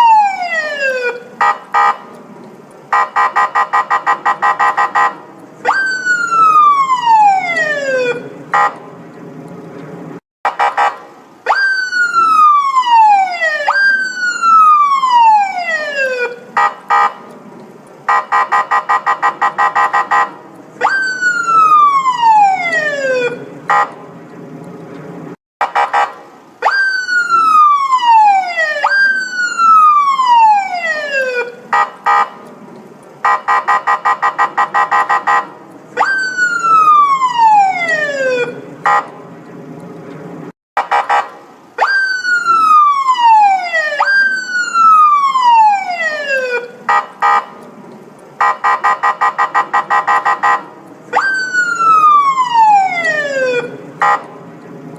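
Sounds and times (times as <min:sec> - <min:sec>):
police siren wailing: 0:00.0 - 0:02.2, 0:02.9 - 0:08.8, 0:10.5 - 0:17.3, 0:18.1 - 0:24.0, 0:25.6 - 0:32.5, 0:33.2 - 0:39.2, 0:40.8 - 0:47.6, 0:48.4 - 0:54.6.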